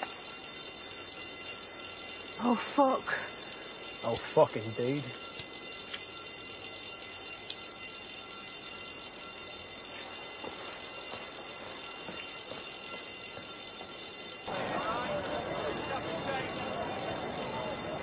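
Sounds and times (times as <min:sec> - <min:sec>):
fire alarm bell ringing: 0:00.0 - 0:18.0.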